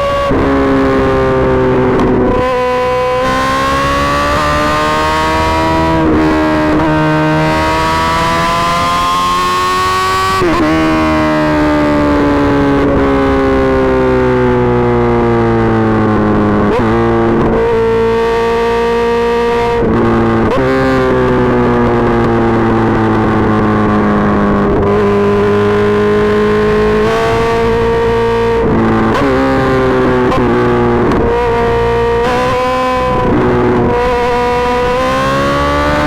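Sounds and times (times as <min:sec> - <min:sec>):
motorcycle engine howling at high revs: 0:00.0 - 0:36.0.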